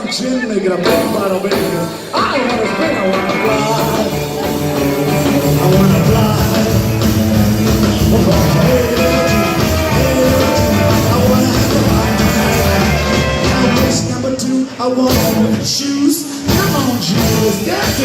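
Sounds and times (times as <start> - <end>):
rockabilly band playing: 0.0 - 18.0.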